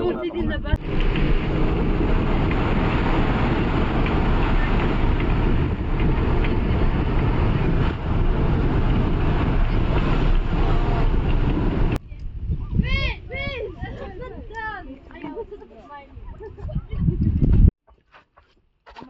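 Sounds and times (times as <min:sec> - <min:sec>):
vehicle rumble: 0:00.0 - 0:15.6.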